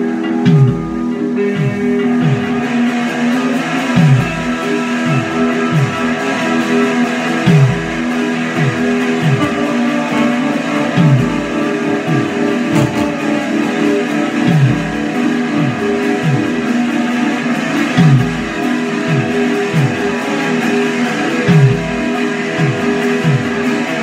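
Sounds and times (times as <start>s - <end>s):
guitar playing held chords: 0.0s - 24.0s
programmed beat with deep kick drum: 0.0s - 24.0s.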